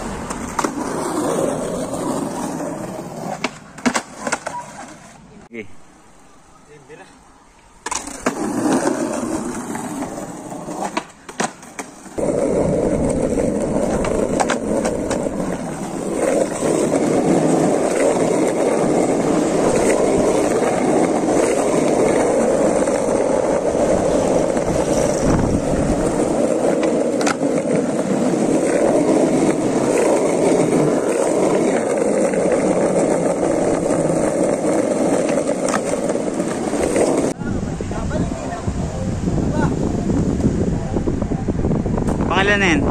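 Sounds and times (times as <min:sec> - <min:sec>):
skateboard wheels rolling on concrete: 0:00.0 - 0:42.9.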